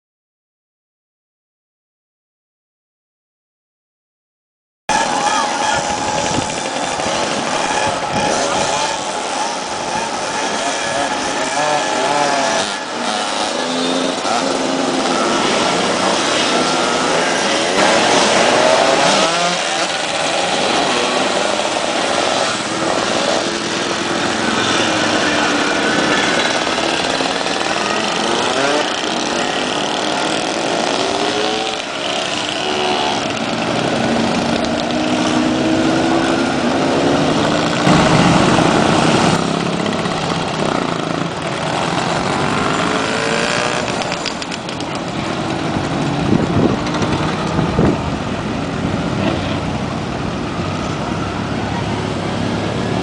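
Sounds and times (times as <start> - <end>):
motorcycles riding past: 4.9 - 53.0.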